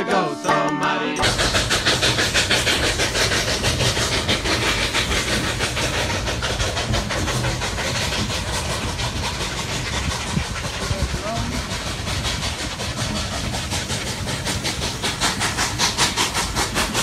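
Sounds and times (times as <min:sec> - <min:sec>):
coaches rumbling on rails: 0:00.0 - 0:17.0
steam locomotive chuffing: 0:00.0 - 0:17.0.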